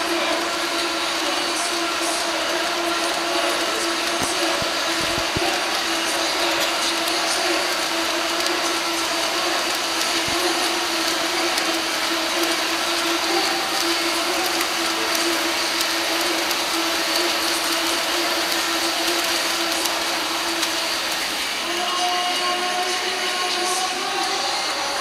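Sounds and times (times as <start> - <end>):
crowd noise echoing in hall: 0.0 - 25.0
sharp claps: 0.0 - 25.0.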